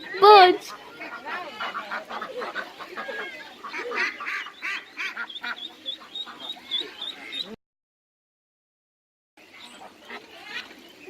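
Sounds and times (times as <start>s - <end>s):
birds calling: 0.0s - 7.6s, 9.4s - 11.0s.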